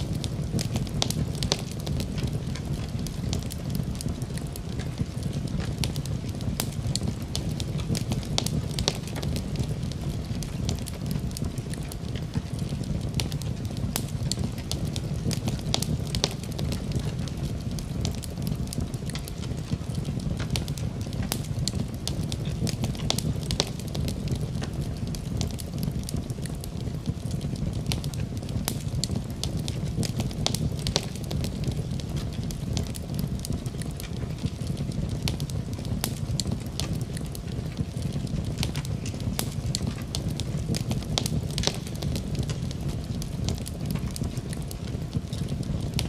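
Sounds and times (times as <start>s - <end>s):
fire popping and snapping: 0.0s - 46.0s
low rumble of flames: 0.0s - 46.0s.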